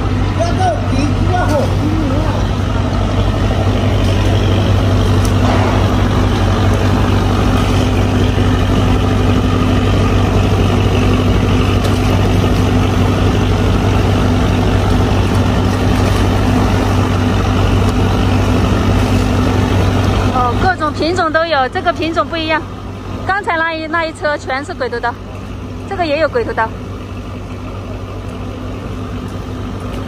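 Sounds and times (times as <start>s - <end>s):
harbour background noise: 0.0s - 30.0s
large vehicle engine idling: 0.0s - 30.0s.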